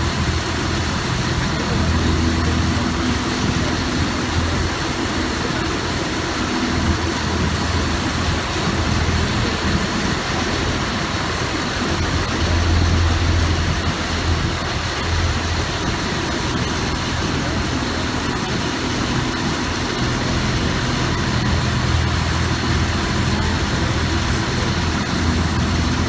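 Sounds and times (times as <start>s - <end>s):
constant rush of noise: 0.0s - 26.0s
engine running: 0.0s - 26.0s.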